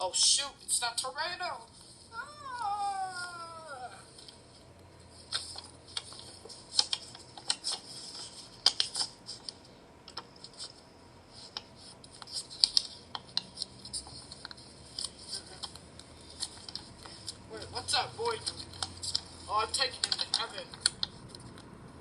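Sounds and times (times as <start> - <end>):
paper rustling and crinkling: 1.6 - 21.6.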